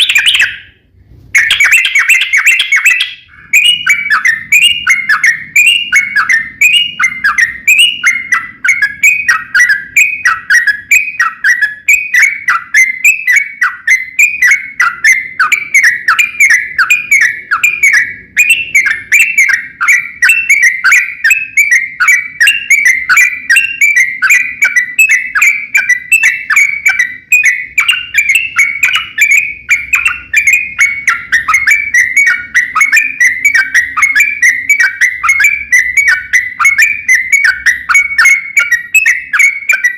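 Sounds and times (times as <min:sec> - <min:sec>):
bird singing whistled phrases: 0:00.0 - 0:00.8, 0:01.4 - 0:39.9.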